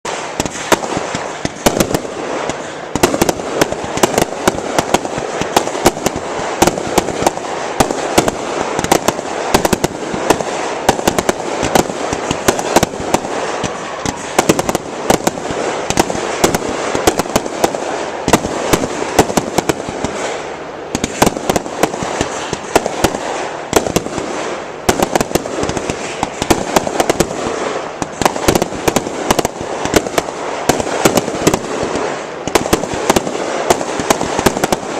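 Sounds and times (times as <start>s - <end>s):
fireworks bangs: 0.0s - 34.9s
fireworks crackling: 0.0s - 34.9s.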